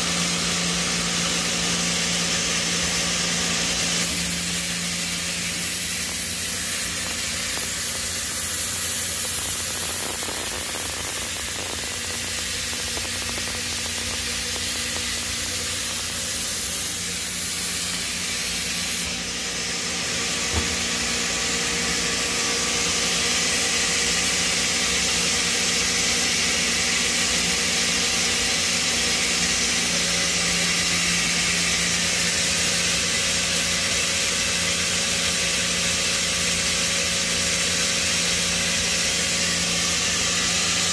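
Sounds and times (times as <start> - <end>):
machine hum and hiss: 0.0 - 40.9.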